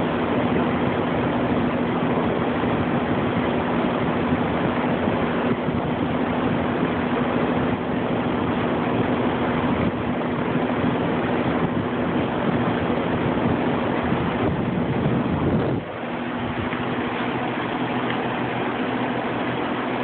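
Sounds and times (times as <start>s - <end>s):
air conditioner fan running: 0.0s - 20.0s.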